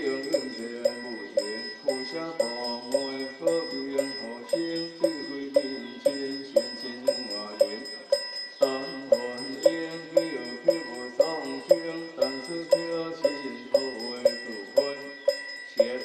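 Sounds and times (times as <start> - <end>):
chanting in unison: 0.0 - 8.0, 8.6 - 16.0.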